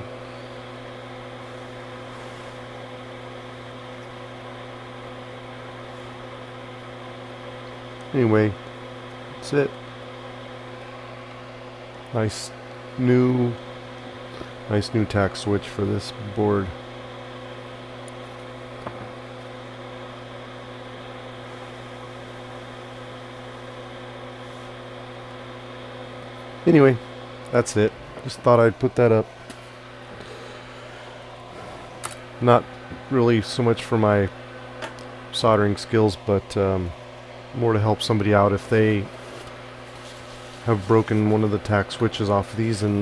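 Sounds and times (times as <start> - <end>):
machine hum: 0.0 - 43.0.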